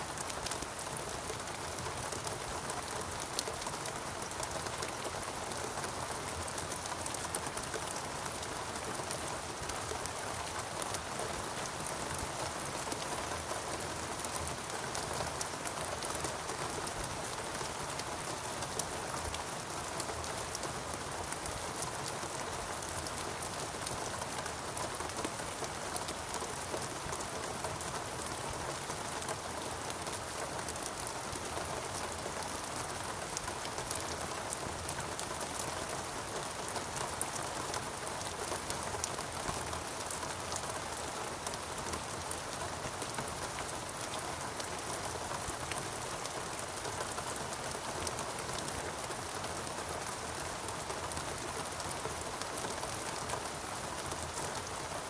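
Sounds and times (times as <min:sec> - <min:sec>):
rain on foliage: 0:00.0 - 0:55.0.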